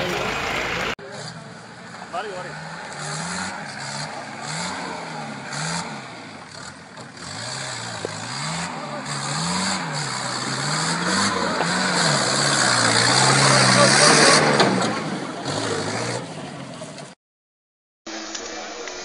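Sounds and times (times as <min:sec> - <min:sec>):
jeep engine revving: 0:00.0 - 0:17.2.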